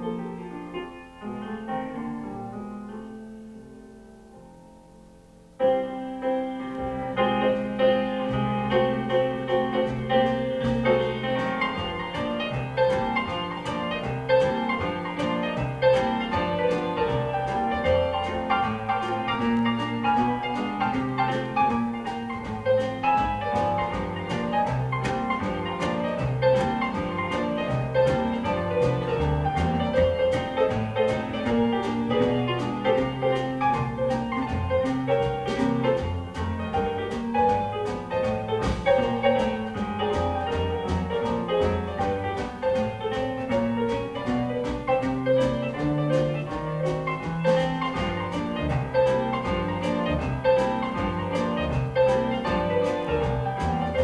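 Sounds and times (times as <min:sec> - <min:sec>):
jazz band playing: 0:04.9 - 0:54.0
double bass: 0:05.8 - 0:54.0
drum kit: 0:06.6 - 0:54.0.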